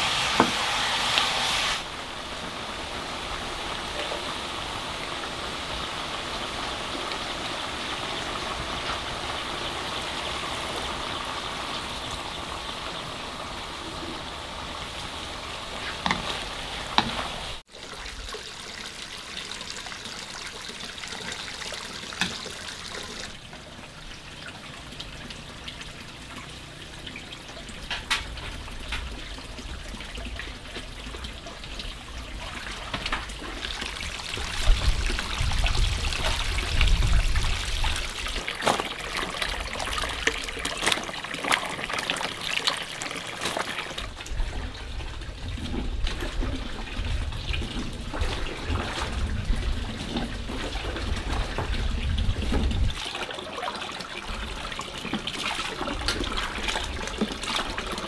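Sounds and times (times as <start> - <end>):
water trickling and pouring: 1.7 - 58.0.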